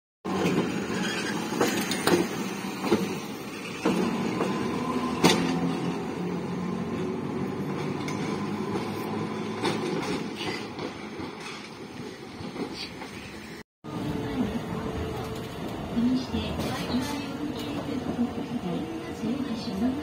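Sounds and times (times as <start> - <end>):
streetcar running noise: 0.3 - 20.0.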